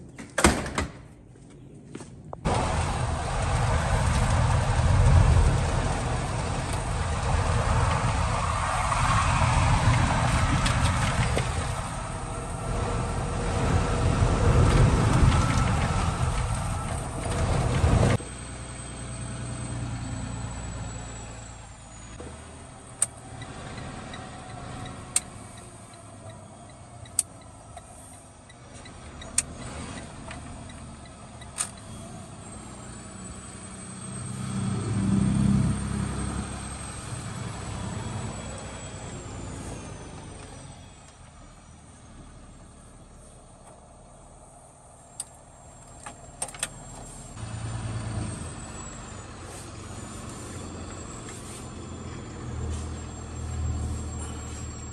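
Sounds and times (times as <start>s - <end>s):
road noise in truck cab: 2.1s - 54.9s
truck engine running low: 2.4s - 54.9s.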